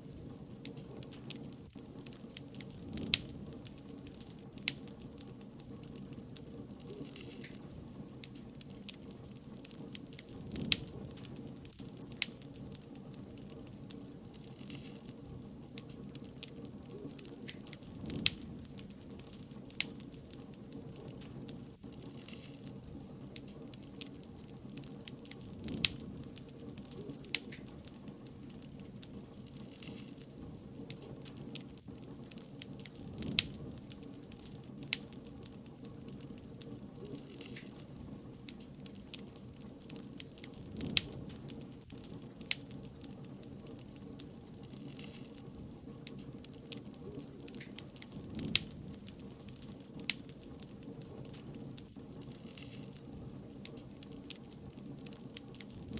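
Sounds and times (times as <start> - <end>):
fire crackling and popping: 0.0 - 55.9
low steady flame roar: 0.0 - 55.9.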